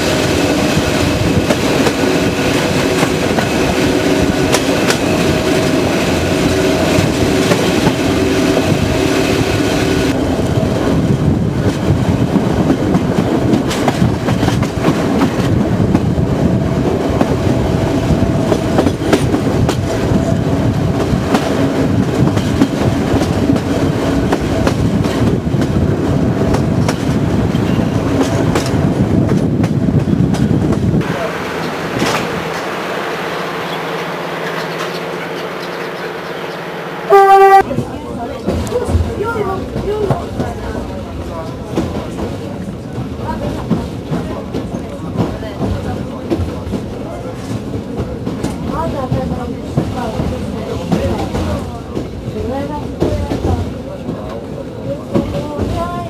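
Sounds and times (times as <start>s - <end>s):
train wheels rumbling on track: 0.0s - 56.0s
rail joint clicks: 0.4s - 10.6s, 11.3s - 16.2s, 16.8s - 32.9s, 33.6s - 36.7s, 37.6s - 56.0s.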